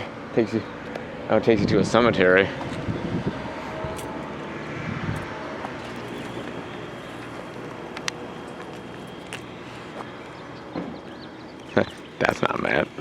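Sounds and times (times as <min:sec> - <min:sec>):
distant engine noise: 0:00.0 - 0:13.0.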